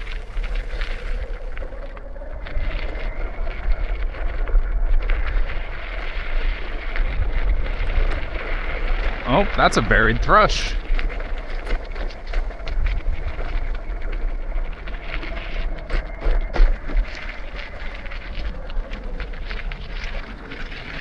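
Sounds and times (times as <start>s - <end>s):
wheels rolling over a trail: 0.0s - 9.3s, 10.6s - 21.0s
wind rumbling on microphone: 0.0s - 21.0s.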